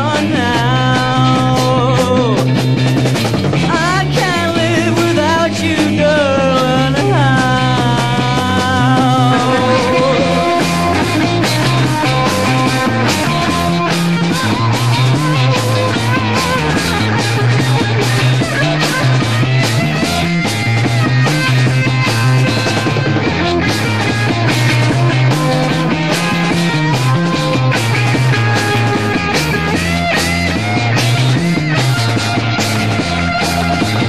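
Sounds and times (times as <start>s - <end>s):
bass line: 0.0s - 34.0s
drum kit beat: 0.0s - 34.0s
electric guitar: 0.0s - 34.0s.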